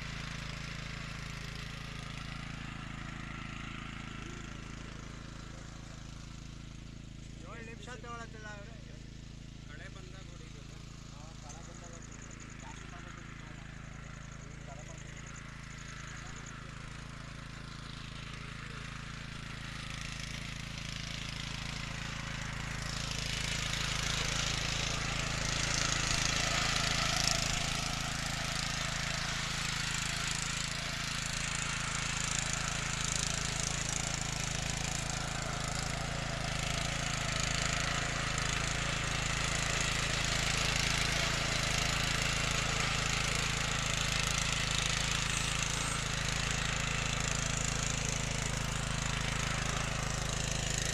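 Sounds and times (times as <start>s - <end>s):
tiller engine running: 0.0s - 50.9s
tines churning soil: 0.0s - 50.9s.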